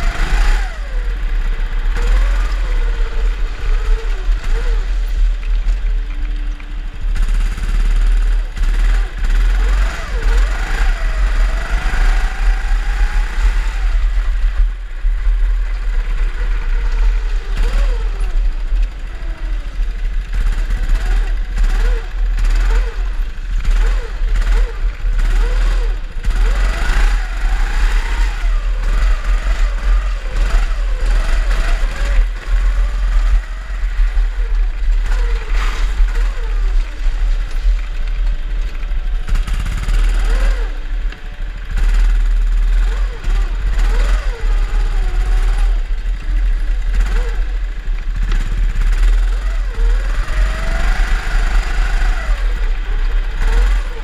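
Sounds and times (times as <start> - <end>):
heavy low rumble: 0.0 - 54.0
kart engines revving: 0.0 - 54.0.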